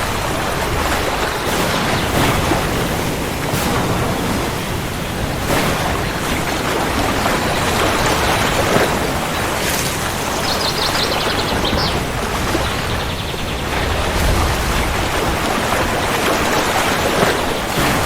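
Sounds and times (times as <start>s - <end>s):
crackles of raindrops: 0.0s - 18.0s
heavy rain: 0.0s - 18.0s.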